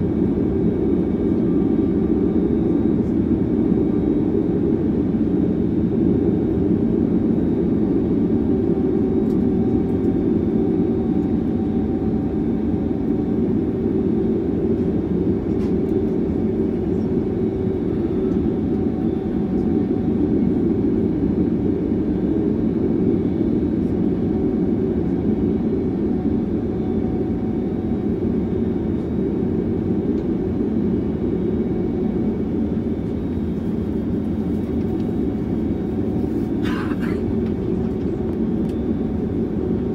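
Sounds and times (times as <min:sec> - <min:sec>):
jet engines idling low rumble: 0:00.0 - 0:39.9.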